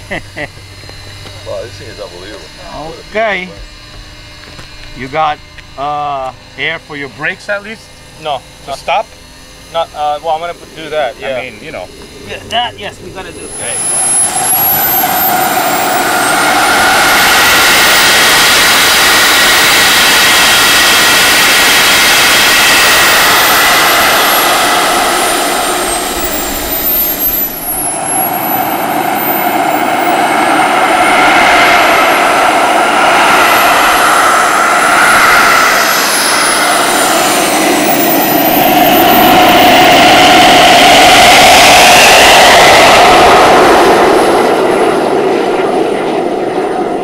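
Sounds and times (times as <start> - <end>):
model jet turbine whine: 0.0 - 47.0.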